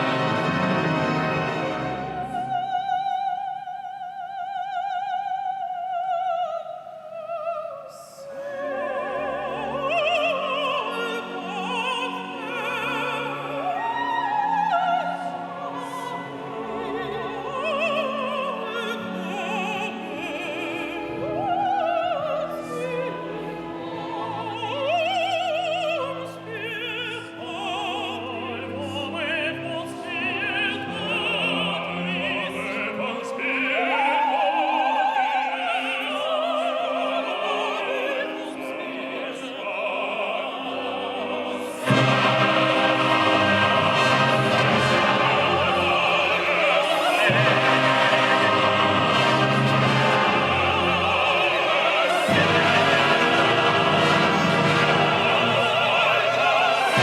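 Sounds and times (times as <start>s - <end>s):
orchestral accompaniment: 0.0s - 3.4s, 8.4s - 57.0s
operatic singing with vibrato: 0.0s - 57.0s.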